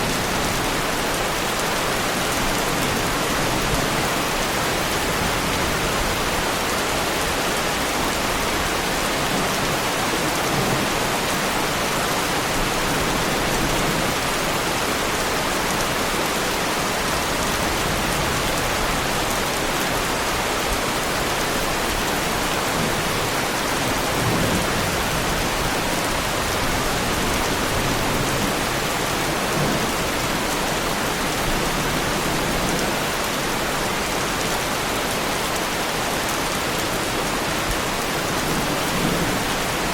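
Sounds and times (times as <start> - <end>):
heavy rain on a car body: 0.0 - 39.9.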